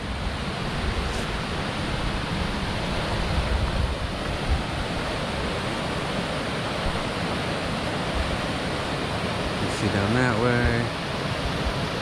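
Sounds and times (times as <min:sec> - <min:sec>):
river rushing over rapids: 0:00.0 - 0:12.0
wind rumble on microphone: 0:00.0 - 0:12.0.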